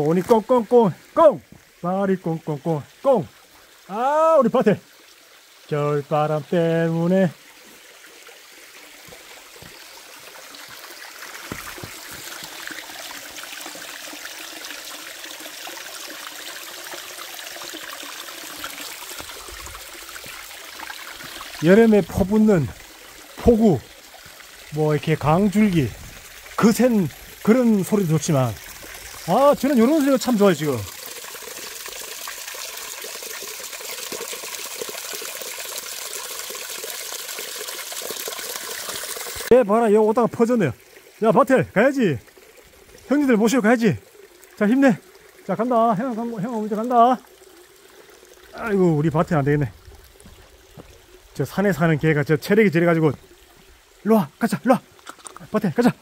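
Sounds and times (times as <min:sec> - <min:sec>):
stream trickling over rocks: 0:00.0 - 0:56.0
small water splashes: 0:07.3 - 0:56.0.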